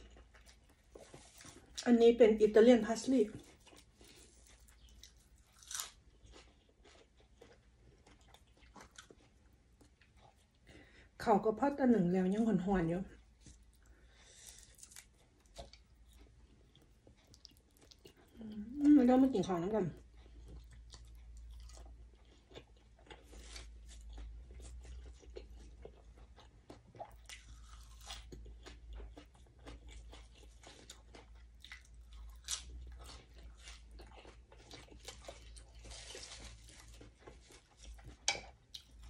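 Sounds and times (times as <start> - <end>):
chewing with crisp crunches: 0.0 - 11.1, 13.1 - 39.0.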